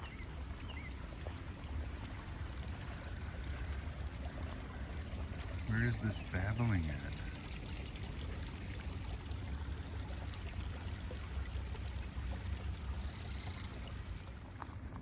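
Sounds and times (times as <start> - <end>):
stream babbling: 0.0 - 15.0.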